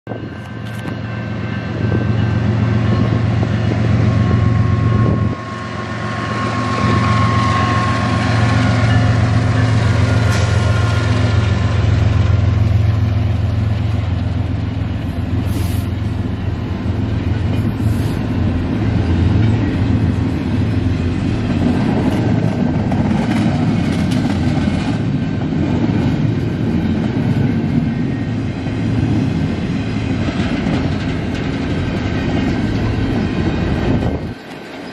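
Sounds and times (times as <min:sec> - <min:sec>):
diesel locomotive engine drone: 0:00.0 - 0:34.9
train wheels clattering on rail: 0:00.1 - 0:34.9.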